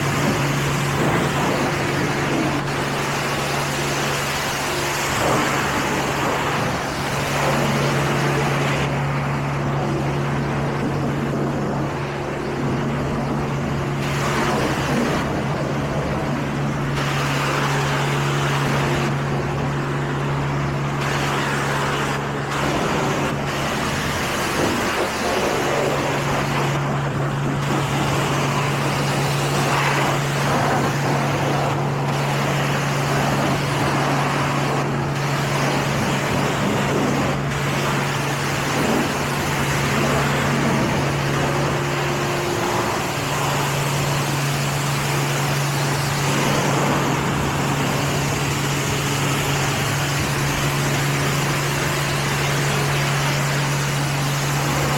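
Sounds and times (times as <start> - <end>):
car wash machinery hum: 0.0 - 54.9
rushing water spray: 0.0 - 54.9.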